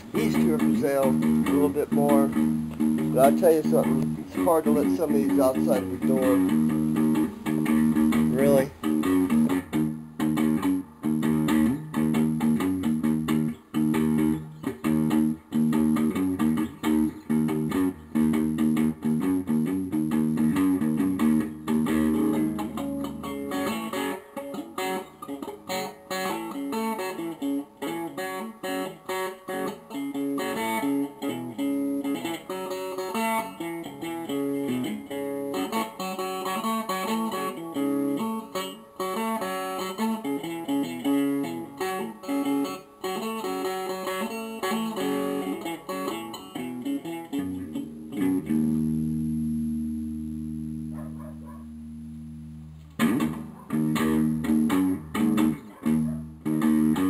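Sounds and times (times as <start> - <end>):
plucked guitar music: 0.0 - 57.0.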